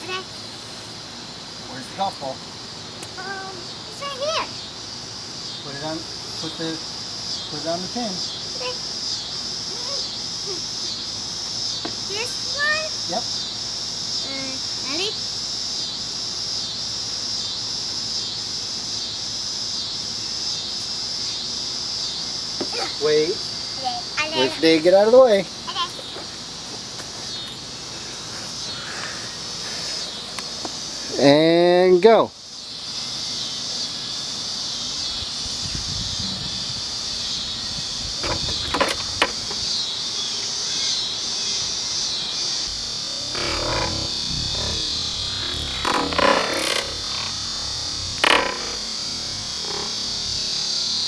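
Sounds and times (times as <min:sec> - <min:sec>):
insects chorus: 0:00.0 - 0:51.0.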